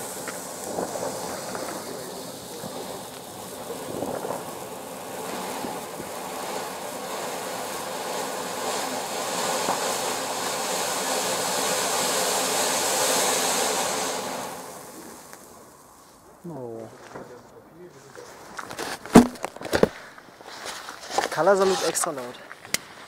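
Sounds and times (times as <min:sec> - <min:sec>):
ground firework hissing: 0:00.0 - 0:23.0.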